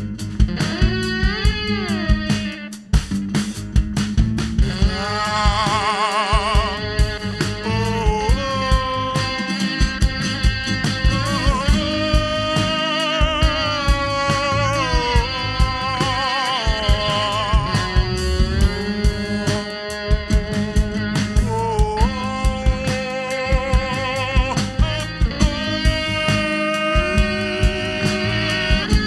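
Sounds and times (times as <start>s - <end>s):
bass: 0.0s - 29.0s
drum beat: 0.0s - 29.0s.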